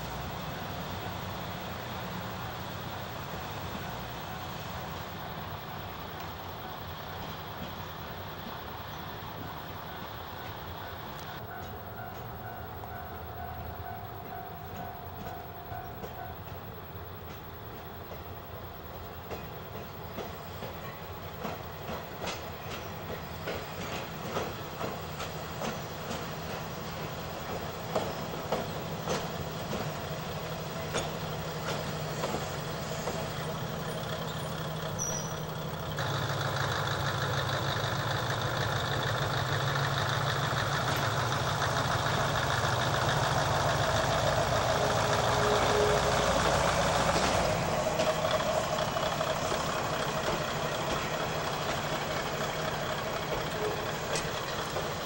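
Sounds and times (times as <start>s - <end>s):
diesel railcar engine drone: 0.0s - 55.0s.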